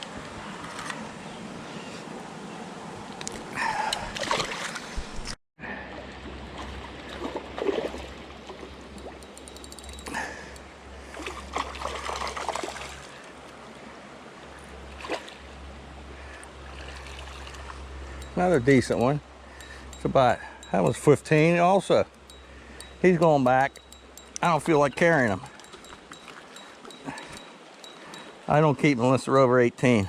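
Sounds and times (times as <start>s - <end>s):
creek water running: 0.4s - 30.0s.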